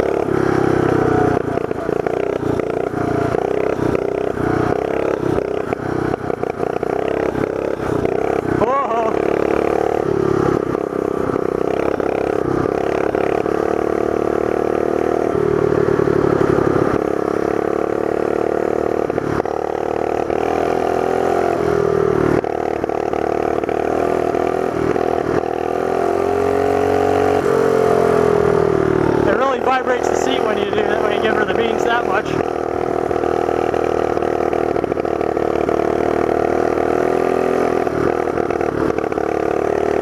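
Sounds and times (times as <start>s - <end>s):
small motorbike engine revving: 0.0s - 40.0s.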